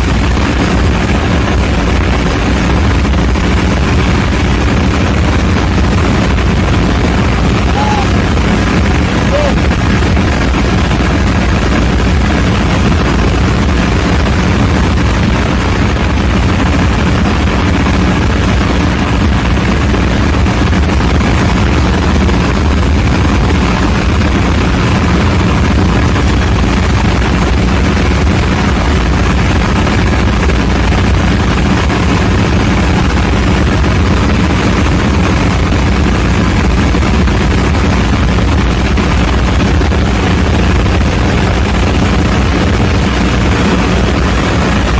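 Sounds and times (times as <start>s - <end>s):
ship diesel engine droning: 0.0s - 44.9s.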